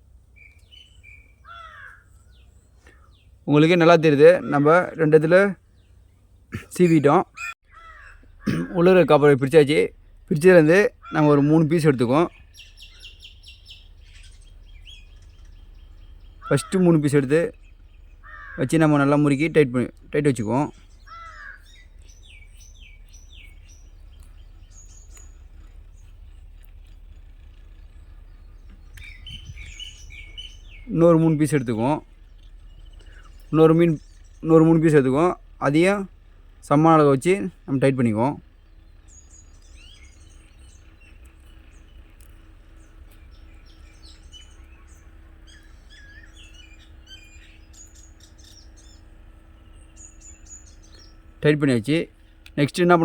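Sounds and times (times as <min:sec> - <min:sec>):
small birds chirping: 0:00.0 - 0:53.0
steady low hum: 0:00.0 - 0:53.0.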